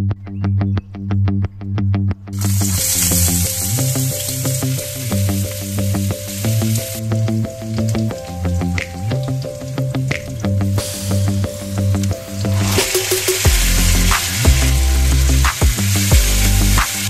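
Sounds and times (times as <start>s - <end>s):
onion sizzling in oil: 2.4s - 17.0s
background music with steady beat: 2.8s - 17.0s.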